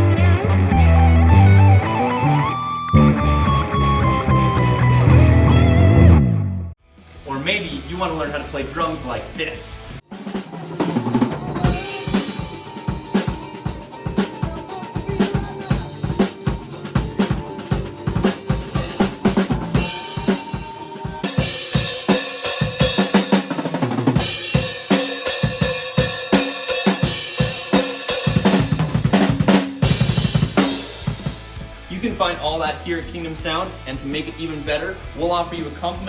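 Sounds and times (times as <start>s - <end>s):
drum kit groove: 6.9s - 36.0s
cymbals and hi-hat: 7.0s - 36.0s.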